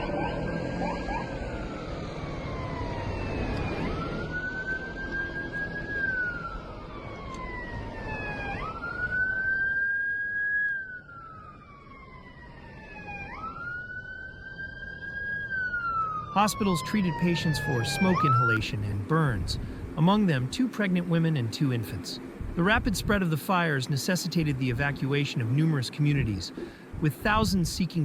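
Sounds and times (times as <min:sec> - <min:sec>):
siren wailing: 0:00.0 - 0:23.2.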